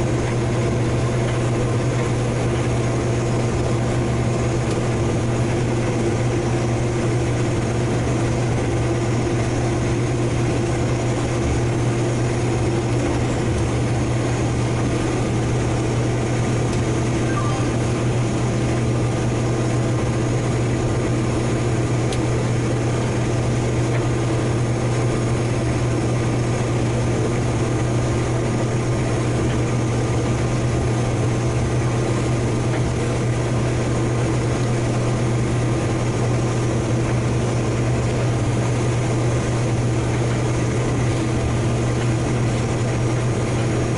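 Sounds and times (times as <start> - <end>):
heavy machinery engine drone: 0.0 - 43.9.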